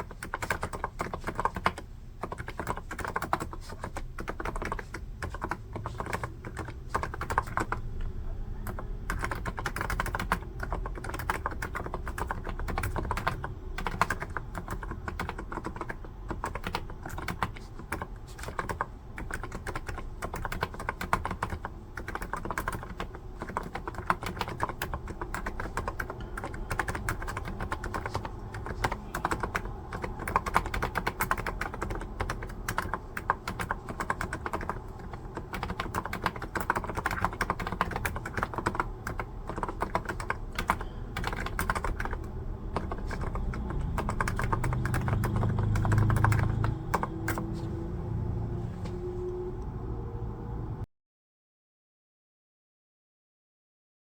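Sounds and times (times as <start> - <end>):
fast typing on keyboard: 0.0 - 47.7.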